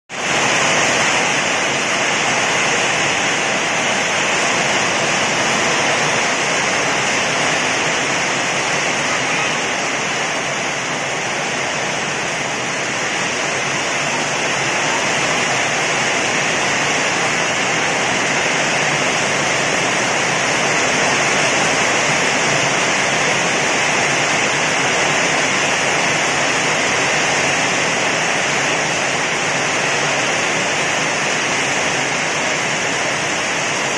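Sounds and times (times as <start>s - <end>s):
heavy rain downpour: 0.1s - 33.9s.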